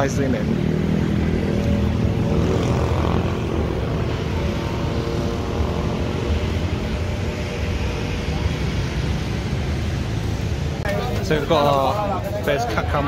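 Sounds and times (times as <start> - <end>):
vehicle engine droning: 0.0 - 11.1.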